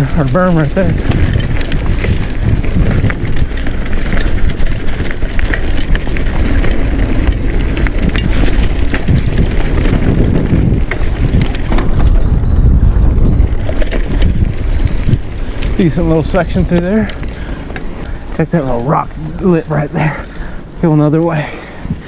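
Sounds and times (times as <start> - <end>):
bike clicks and rattles: 0.0 - 22.0
bike tyre noise: 0.0 - 22.0
wind buffeting microphone: 0.0 - 22.0.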